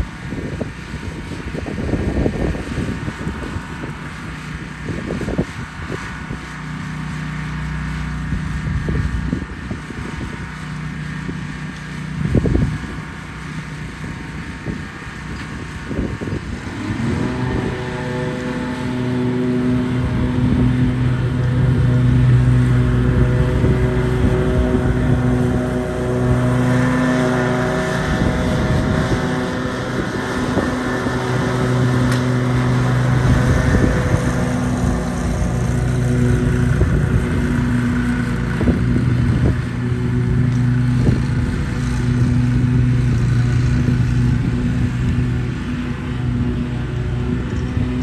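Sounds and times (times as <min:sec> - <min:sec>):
riding mower engine running: 0:00.0 - 0:48.0.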